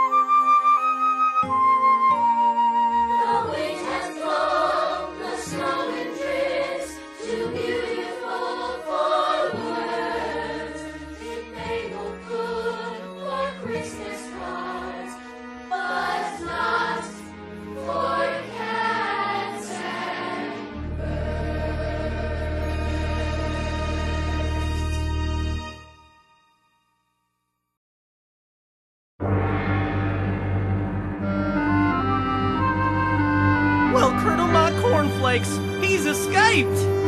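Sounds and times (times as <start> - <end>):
choir singing with music: 0.0 - 26.2, 29.2 - 37.0.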